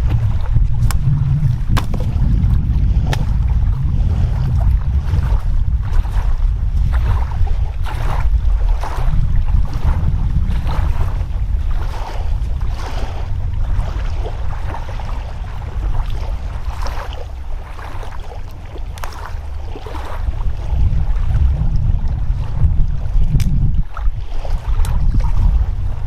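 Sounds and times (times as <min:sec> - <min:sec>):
waves washing on shore: 0:00.0 - 0:26.0
wind buffeting microphone: 0:00.0 - 0:26.0.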